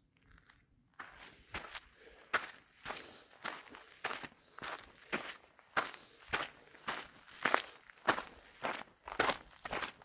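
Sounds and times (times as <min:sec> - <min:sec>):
crunching footsteps on trail: 0:00.2 - 0:10.0.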